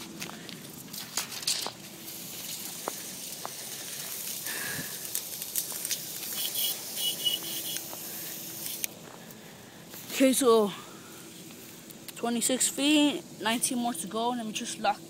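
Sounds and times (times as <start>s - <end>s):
footsteps crunching dry grass: 0.0s - 13.4s.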